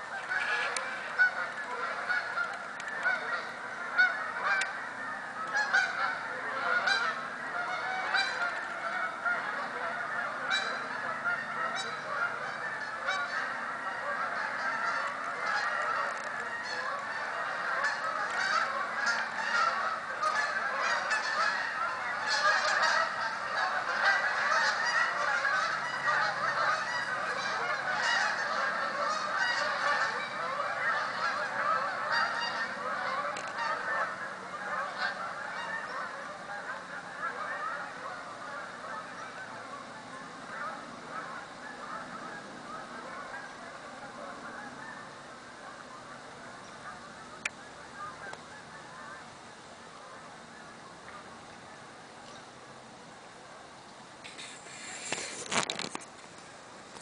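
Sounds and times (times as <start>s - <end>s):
geese honking: 0.0s - 57.0s.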